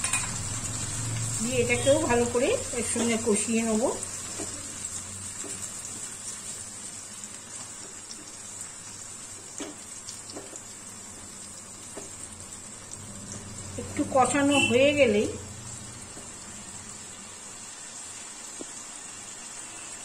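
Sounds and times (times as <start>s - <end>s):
onions frying in oil: 0.0s - 20.0s.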